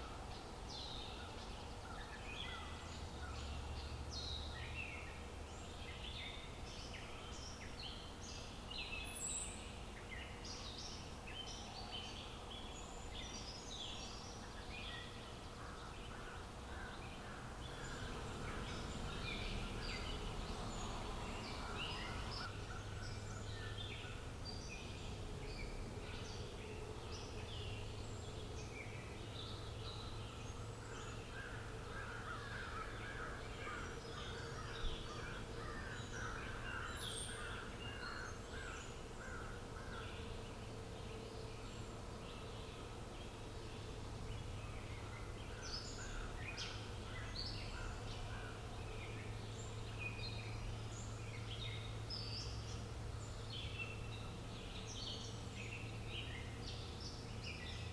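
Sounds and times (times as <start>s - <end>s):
outdoor background noise: 0.0s - 57.9s
small birds chirping: 0.0s - 57.9s.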